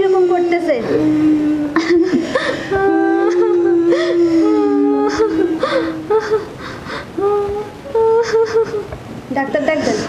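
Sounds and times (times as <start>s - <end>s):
sobbing breaths: 0.0s - 8.9s
woman wailing in grief: 0.0s - 8.9s.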